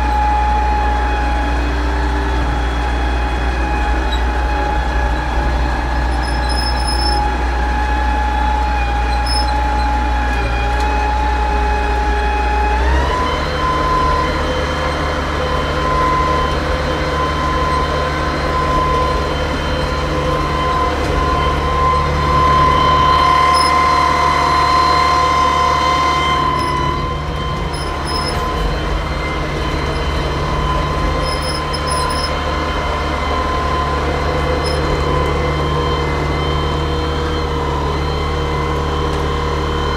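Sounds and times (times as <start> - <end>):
running gear whine: 0.0 - 39.9
tractor engine hum: 0.0 - 39.9.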